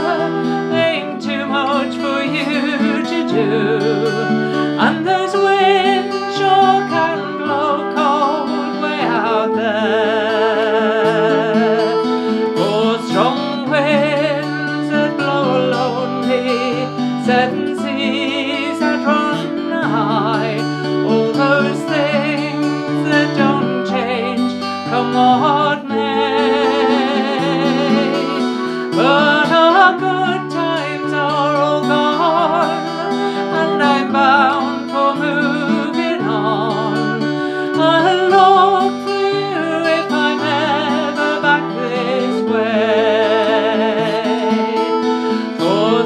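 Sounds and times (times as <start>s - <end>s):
acoustic guitar: 0.0s - 46.0s
flute melody with vibrato: 0.0s - 46.0s
woman singing: 0.0s - 46.0s.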